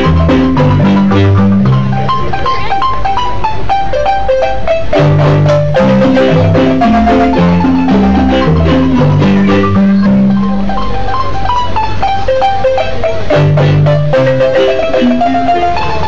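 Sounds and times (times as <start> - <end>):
high marimba mallet notes: 0.0 - 16.0
low bass marimba line: 0.0 - 16.0.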